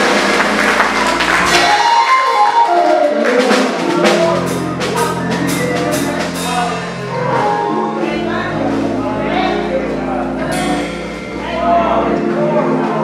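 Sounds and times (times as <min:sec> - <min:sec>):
bass line: 0:00.0 - 0:02.1, 0:03.4 - 0:12.5
drum kit beat: 0:00.0 - 0:13.0
held chords: 0:00.0 - 0:13.0.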